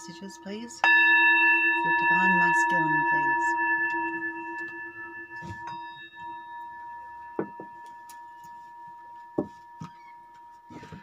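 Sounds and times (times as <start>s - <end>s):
ringing bell-like tone: 0.0s - 11.0s.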